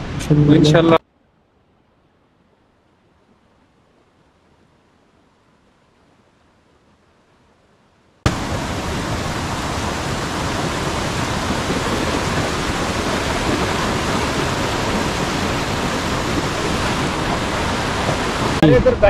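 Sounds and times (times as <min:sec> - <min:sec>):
steady rushing noise: 0:02.1 - 0:19.0.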